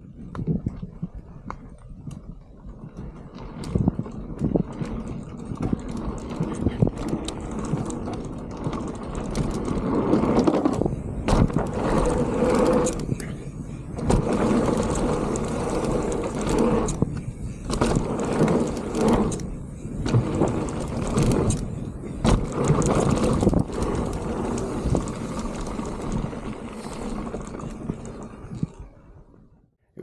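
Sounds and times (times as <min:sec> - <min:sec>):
bike rattling over bumps: 0:00.0 - 0:29.5
bike tyres rolling on dirt: 0:00.0 - 0:29.6
wind on microphone: 0:00.0 - 0:29.6.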